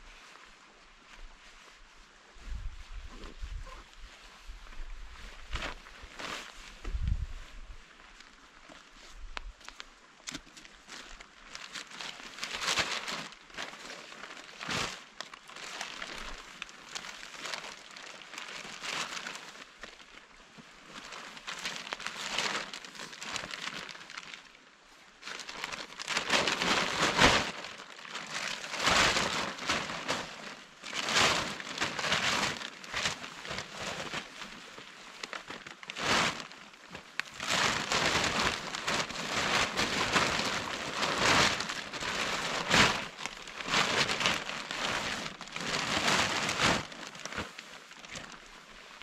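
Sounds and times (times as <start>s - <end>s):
nylon sheet rustling and crinkling: 0.0s - 49.0s.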